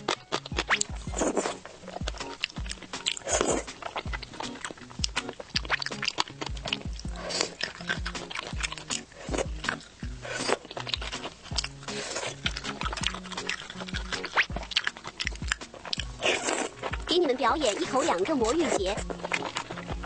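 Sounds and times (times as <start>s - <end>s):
crunching and chewing: 0.0s - 20.0s
soft background music: 0.0s - 20.0s.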